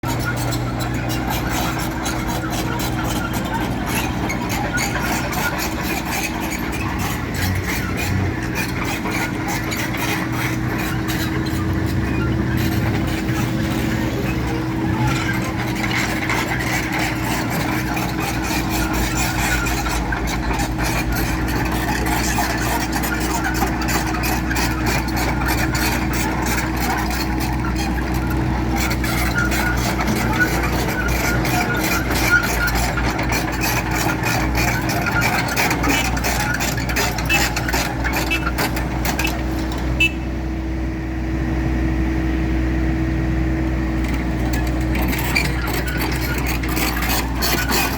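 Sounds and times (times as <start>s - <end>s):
heavy machinery engine humming: 0.0s - 47.9s.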